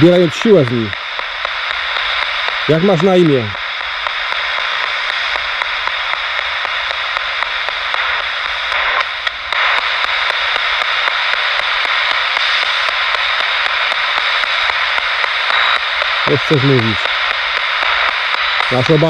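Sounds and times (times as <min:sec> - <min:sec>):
radio static hiss: 0:00.0 - 0:19.0
radio tuning clicks: 0:00.0 - 0:19.0.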